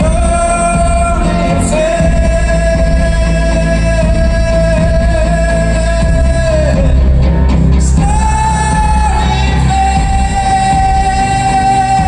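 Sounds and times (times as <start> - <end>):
man singing long held notes: 0.0 - 12.0
steady low bass: 0.0 - 12.0.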